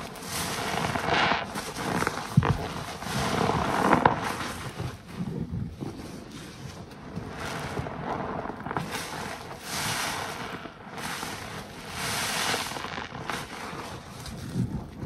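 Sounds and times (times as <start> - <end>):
wet sponge squishing suds: 0.0 - 14.9.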